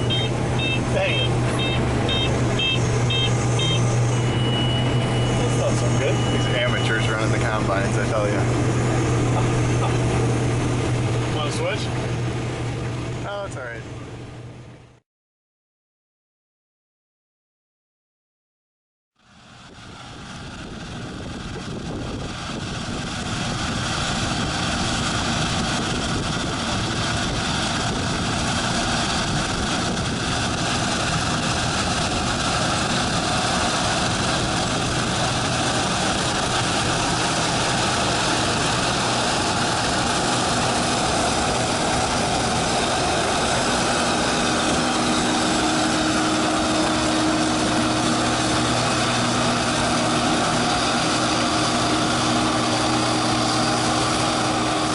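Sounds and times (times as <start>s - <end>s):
combine harvester running: 0.0s - 15.0s, 19.2s - 54.9s.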